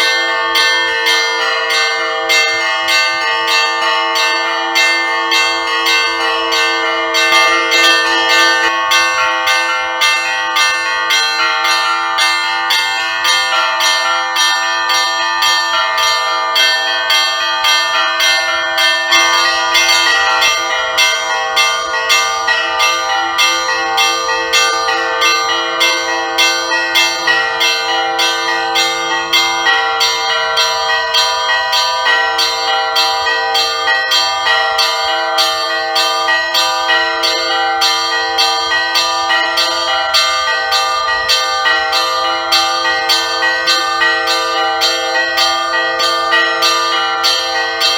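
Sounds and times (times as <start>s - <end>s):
large bells ringing: 0.0s - 47.9s
small bells struck rapidly: 0.0s - 47.9s.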